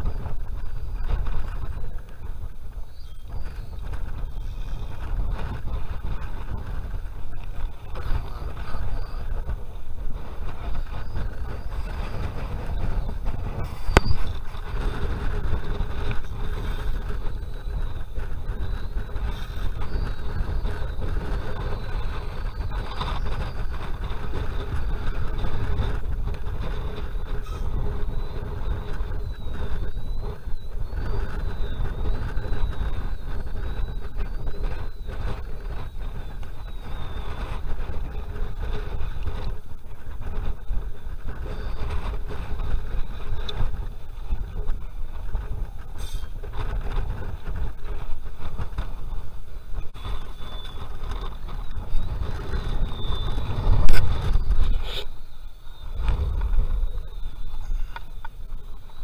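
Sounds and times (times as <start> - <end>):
low rumbling outdoor noise: 0.0 - 59.0.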